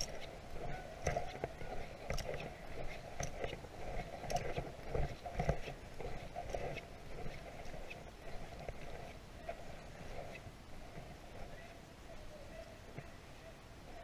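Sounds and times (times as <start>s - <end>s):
footsteps on gravel: 0.0s - 11.6s.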